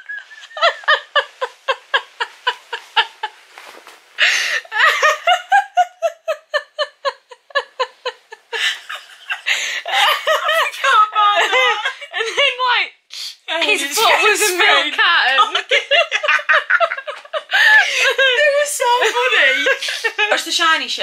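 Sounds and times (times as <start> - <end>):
woman laughing: 0.0 - 12.7, 14.0 - 20.5.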